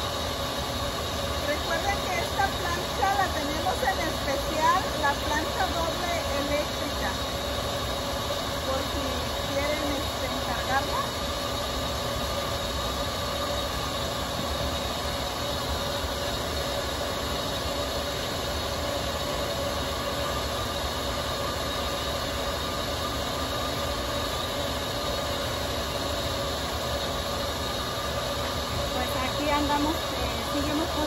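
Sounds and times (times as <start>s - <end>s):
blender whirring with whine: 0.0s - 31.0s.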